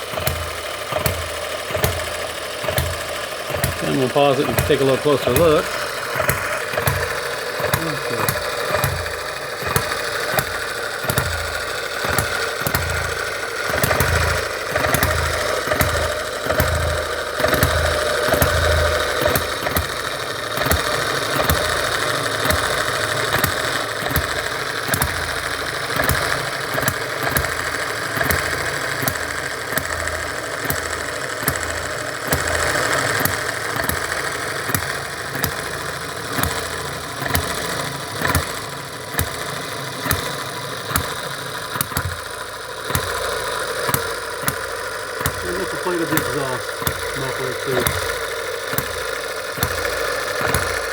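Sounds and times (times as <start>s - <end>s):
gas engine firing pops: 0.0s - 50.9s.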